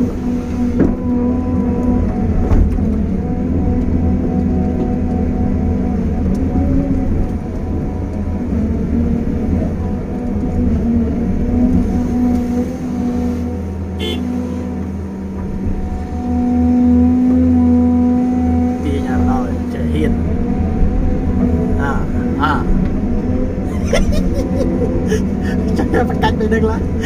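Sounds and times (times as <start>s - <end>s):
excavator diesel engine under load: 0.0s - 27.0s.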